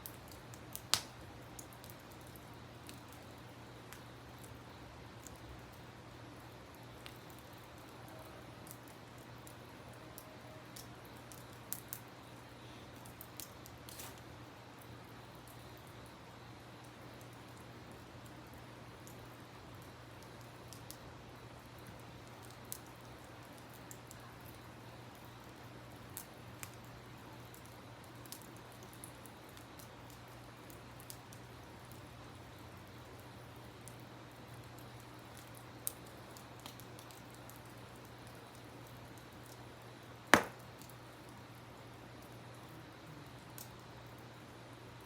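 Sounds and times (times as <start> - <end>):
campfire crackling and popping: 0.0 - 42.7, 43.3 - 45.0.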